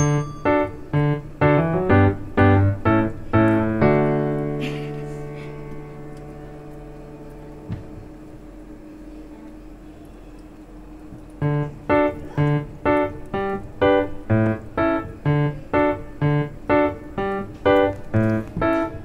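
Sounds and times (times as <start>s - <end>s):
keyboard melody: 0.0s - 8.2s, 11.4s - 19.0s
faint low hum: 0.0s - 19.0s.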